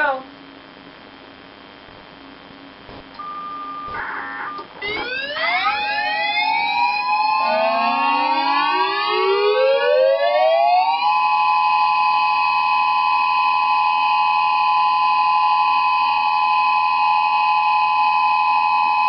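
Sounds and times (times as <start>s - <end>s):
electronic warning sirens wailing: 3.2s - 19.0s.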